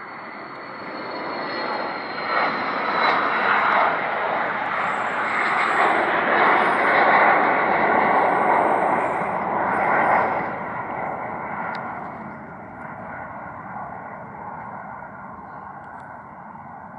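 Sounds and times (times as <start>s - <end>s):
jet engine roar: 0.0s - 16.9s.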